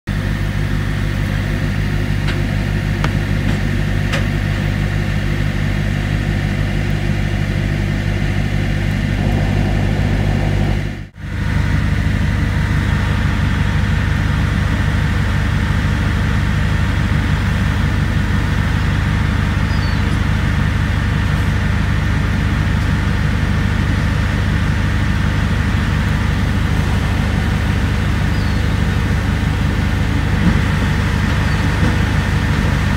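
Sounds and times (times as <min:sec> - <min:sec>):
car engine idling: 0:00.1 - 0:32.9.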